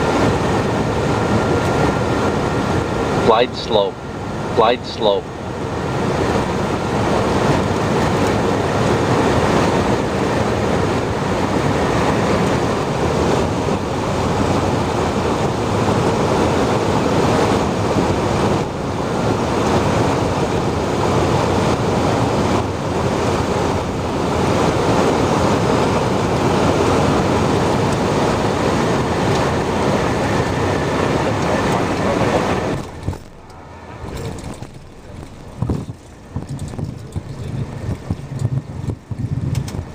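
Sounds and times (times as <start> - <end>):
jet engines: 0.0 - 39.9.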